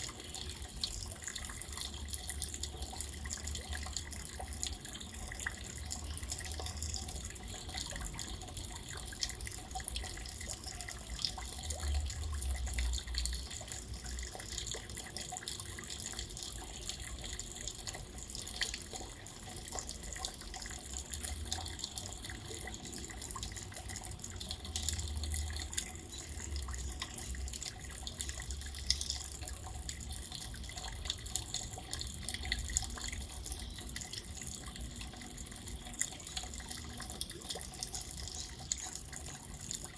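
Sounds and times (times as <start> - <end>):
rain drops ticking and dripping: 0.0 - 39.9.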